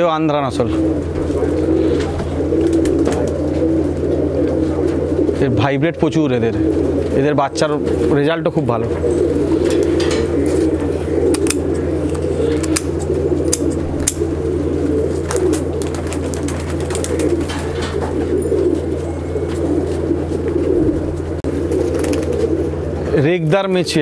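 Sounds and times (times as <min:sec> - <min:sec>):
low hum: 0:00.0 - 0:24.0
pigeons cooing: 0:00.0 - 0:24.0.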